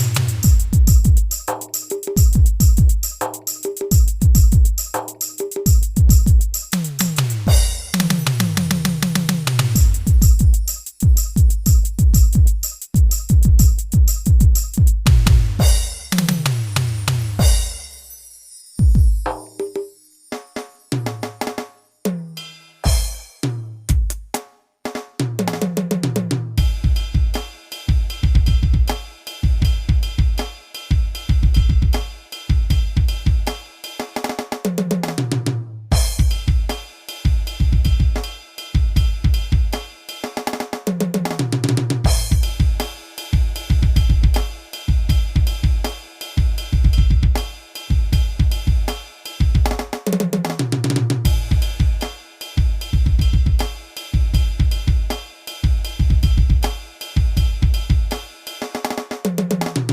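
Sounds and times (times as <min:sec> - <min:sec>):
drum sliding down in pitch: 0:00.0 - 0:17.8, 0:26.0 - 0:33.6, 0:34.7 - 0:39.9, 0:40.6 - 0:59.9
electronic drum beat: 0:00.0 - 0:18.1, 0:18.8 - 0:20.0, 0:22.1 - 0:24.4, 0:25.4 - 0:59.9.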